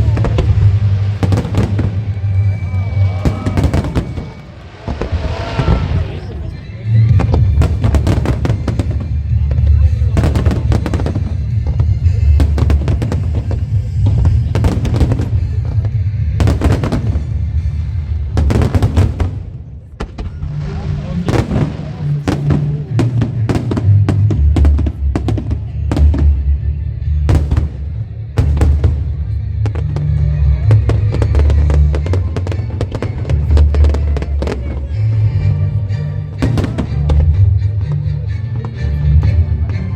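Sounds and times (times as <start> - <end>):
fireworks bursting and crackling: 0.0 - 37.5.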